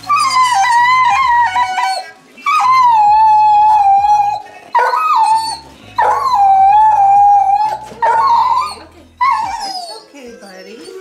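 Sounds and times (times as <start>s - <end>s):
dog howling: 0.0s - 10.8s.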